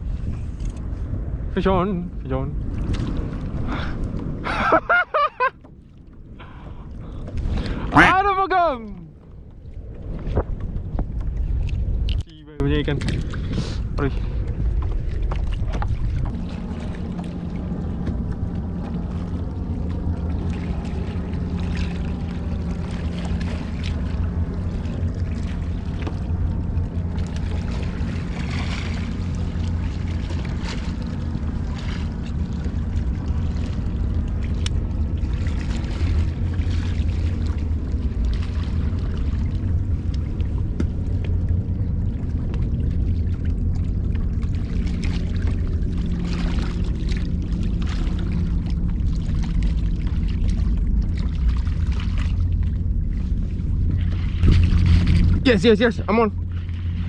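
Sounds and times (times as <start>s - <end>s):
boat engine droning: 0.0s - 57.0s
water noise: 0.0s - 57.0s.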